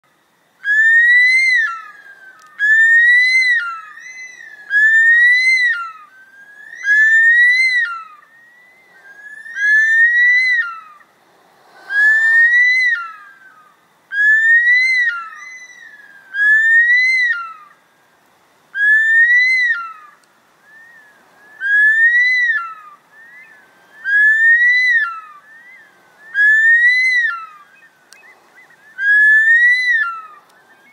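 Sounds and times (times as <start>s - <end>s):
bird whistled calls: 0.6s - 11.1s, 11.8s - 17.8s, 18.7s - 30.9s.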